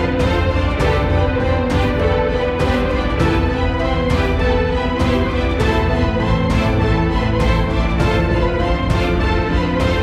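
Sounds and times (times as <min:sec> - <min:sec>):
background music with sustained chords: 0:00.0 - 0:10.0.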